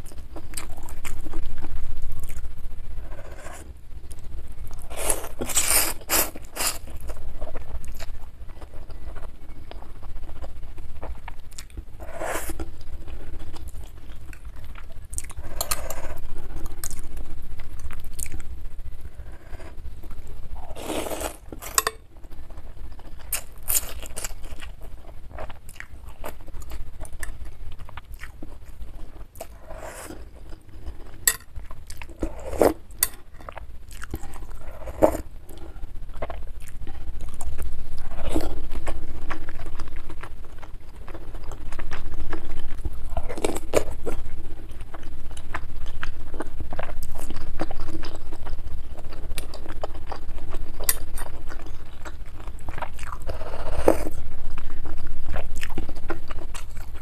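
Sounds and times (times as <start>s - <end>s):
chewing and slurping soup: 0.0s - 18.5s, 19.2s - 57.0s.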